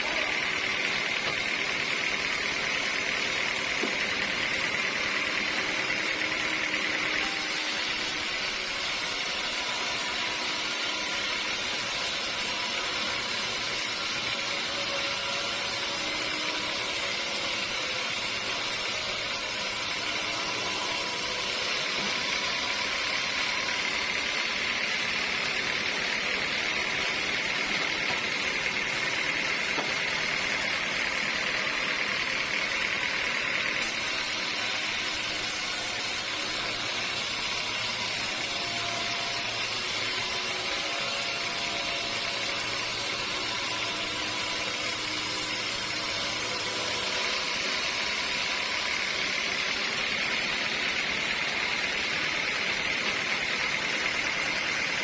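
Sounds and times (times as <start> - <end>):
saw cutting log whine: 0.0 - 55.0
sawmill saw running: 0.0 - 55.0.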